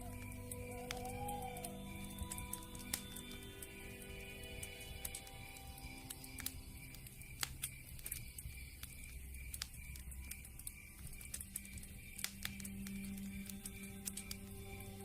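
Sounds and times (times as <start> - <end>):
campfire crackling: 0.0 - 15.0
soft background music: 0.0 - 15.0.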